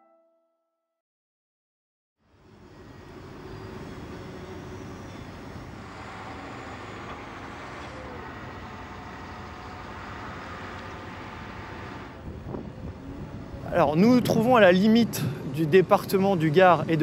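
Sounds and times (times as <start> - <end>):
low rumble of traffic: 2.2 - 17.0.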